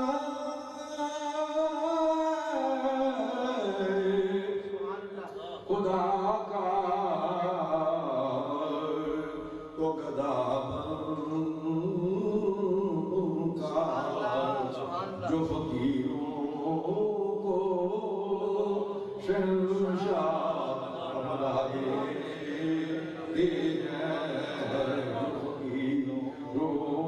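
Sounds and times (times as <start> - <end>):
man chanting: 0.0 - 27.0.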